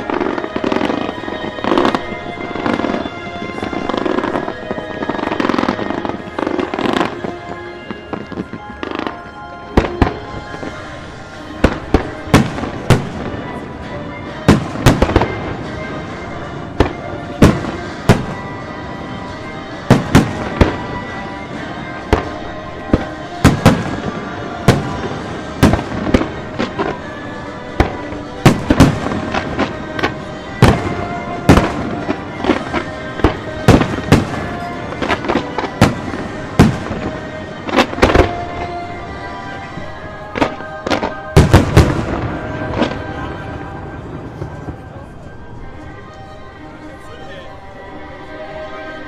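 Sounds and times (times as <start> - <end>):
fireworks bangs: 0.0 - 46.3
music playing: 0.0 - 49.0.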